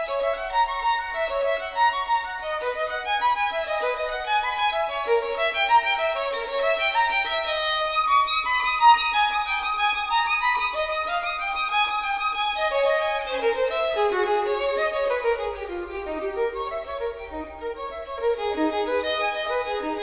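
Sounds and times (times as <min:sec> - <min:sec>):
solo violin melody: 0:00.0 - 0:20.0.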